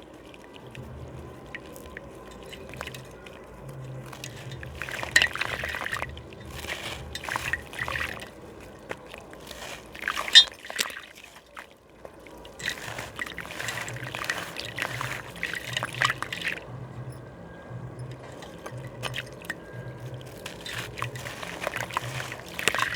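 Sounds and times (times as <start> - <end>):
water trickling and sloshing: 0.0 - 22.9.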